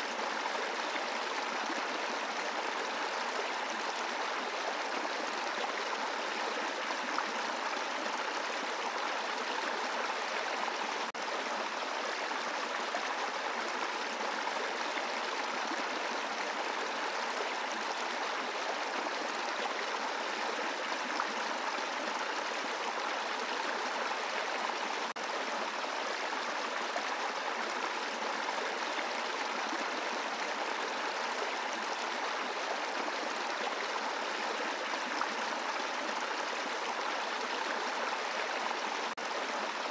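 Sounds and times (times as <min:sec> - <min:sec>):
brook flowing over rocks: 0:00.0 - 0:39.9.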